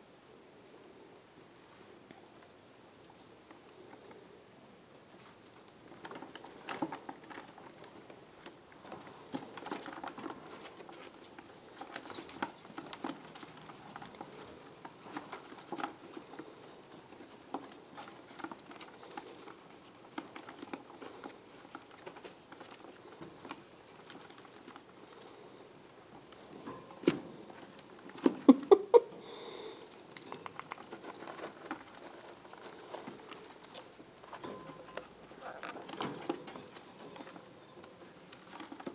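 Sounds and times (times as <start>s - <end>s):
rodents rustling in bedding: 5.0s - 28.5s, 29.9s - 38.9s.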